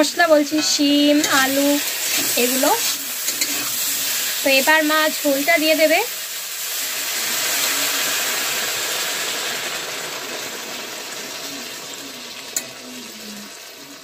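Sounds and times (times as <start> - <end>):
water splashing into hot pan: 1.2 - 12.8.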